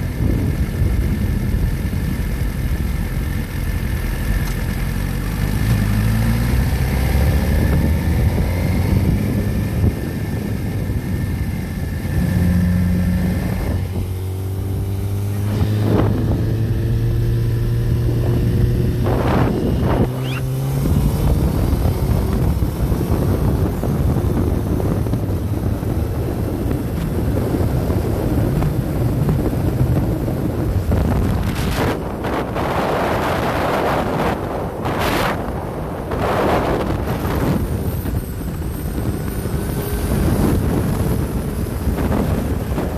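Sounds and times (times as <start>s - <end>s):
motorcycle engine revving: 0.0s - 42.9s
wind noise on microphone: 0.0s - 42.9s.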